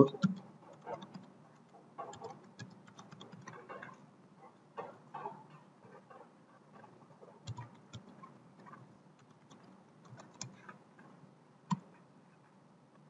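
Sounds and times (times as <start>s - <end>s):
faint keyboard typing: 0.0s - 4.0s, 4.8s - 12.1s.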